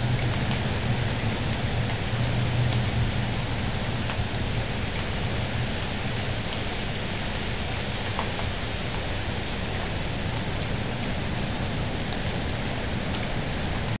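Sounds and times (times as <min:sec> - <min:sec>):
raindrop ticks: 0:00.0 - 0:14.0
steady rain hiss: 0:00.0 - 0:14.0.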